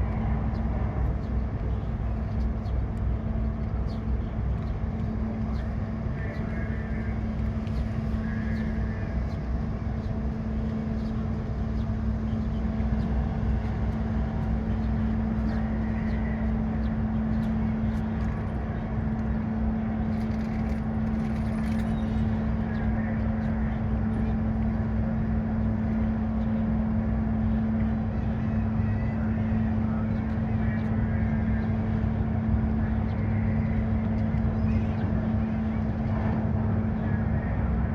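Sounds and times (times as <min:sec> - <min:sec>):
ship engines droning: 0:00.0 - 0:37.9.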